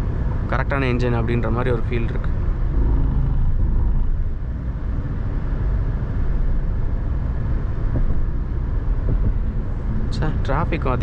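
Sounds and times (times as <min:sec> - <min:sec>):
car engine: 0:00.0 - 0:10.2
road and tyre noise in car cabin: 0:00.0 - 0:11.0.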